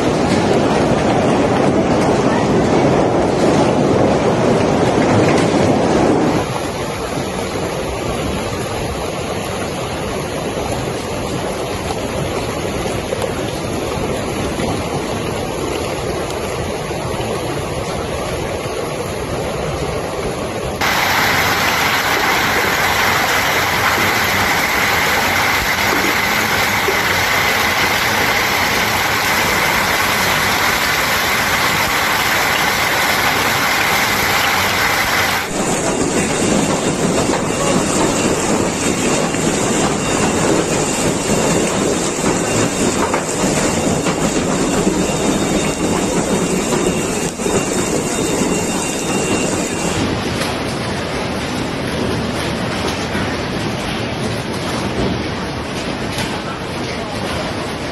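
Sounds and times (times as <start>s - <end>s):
heavy hail and rain: 0.0s - 57.9s.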